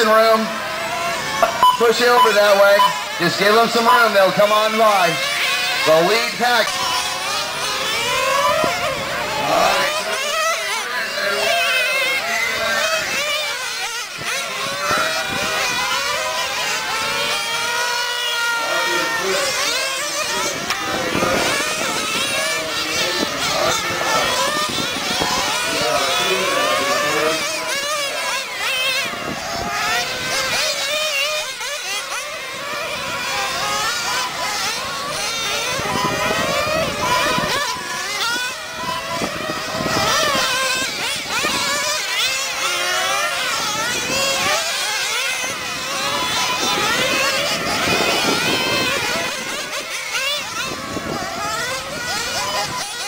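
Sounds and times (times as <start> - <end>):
rc car engines whining: 0.0 - 53.0.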